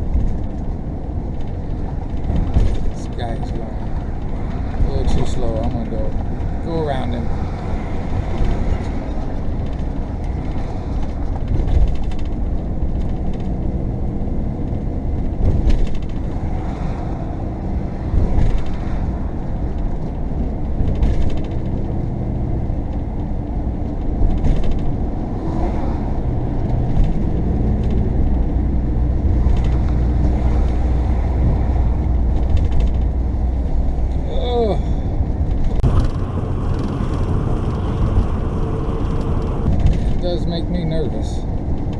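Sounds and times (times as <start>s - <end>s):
engine and road rumble: 0.0s - 41.9s
rattles and creaks: 0.0s - 41.9s.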